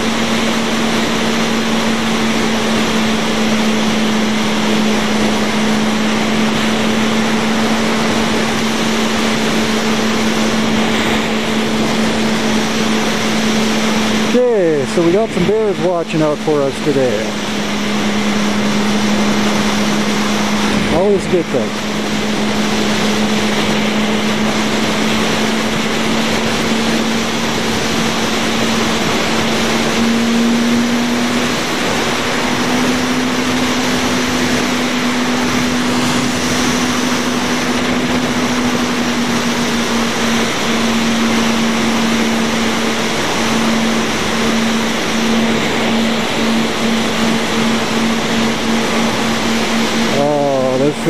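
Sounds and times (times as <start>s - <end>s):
motorcycle engine cruising: 0.0s - 51.0s
rushing wind noise: 0.0s - 51.0s.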